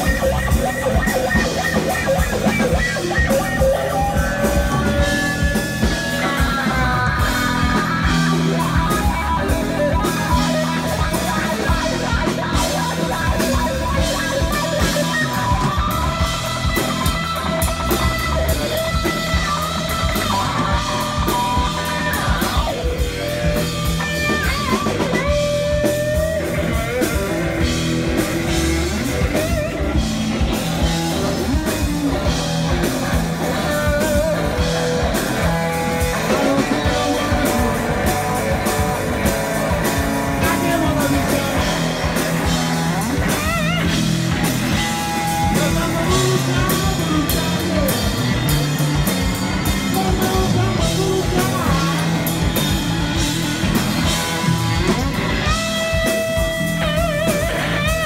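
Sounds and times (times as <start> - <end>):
bass guitar: 0.0 - 58.0
drum kit steady beat: 0.0 - 58.0
electric guitar lead: 0.0 - 58.0.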